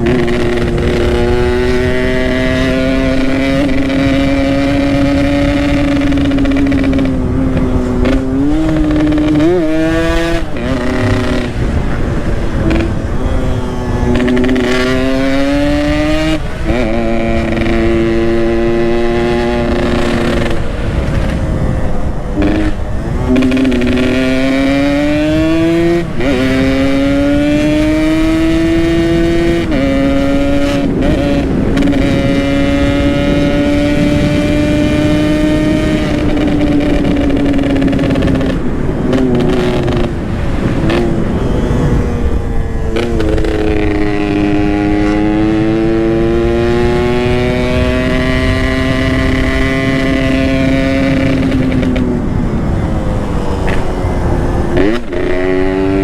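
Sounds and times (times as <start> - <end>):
steady rushing noise: 0.0 - 56.0
two-stroke motorcycle engine: 0.0 - 56.0.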